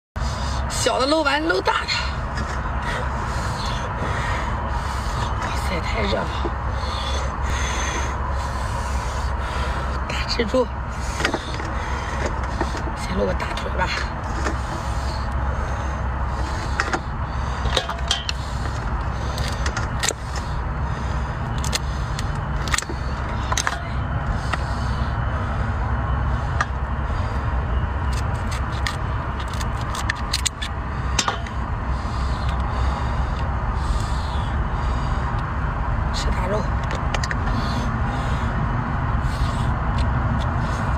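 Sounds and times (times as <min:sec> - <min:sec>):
low rumble: 0:00.2 - 0:40.9.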